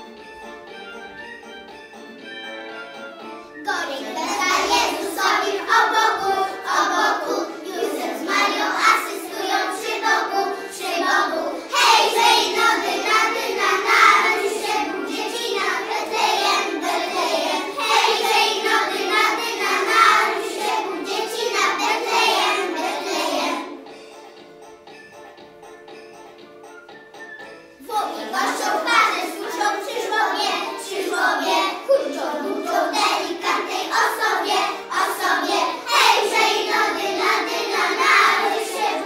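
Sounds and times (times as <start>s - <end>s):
children singing a carol: 3.6s - 23.9s, 27.8s - 39.0s.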